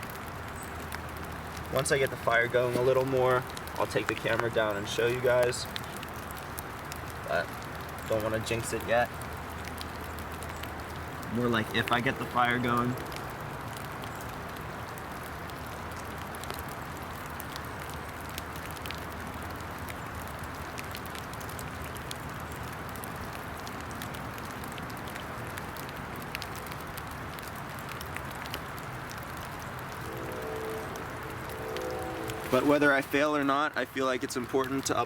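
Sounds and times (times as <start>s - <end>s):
rain hissing in woodland: 0.0s - 35.0s
small sharp raindrop ticks: 0.0s - 35.0s.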